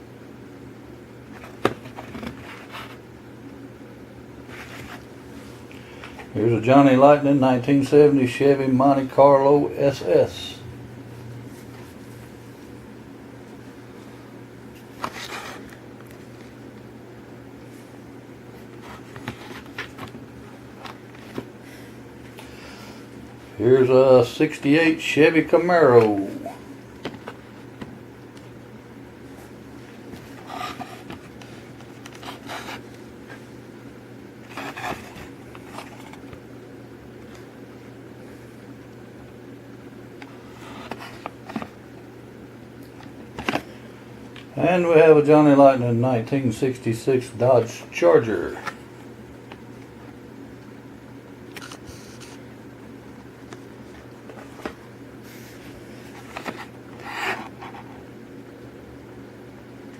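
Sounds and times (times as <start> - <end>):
low room hum: 0.0 - 59.9.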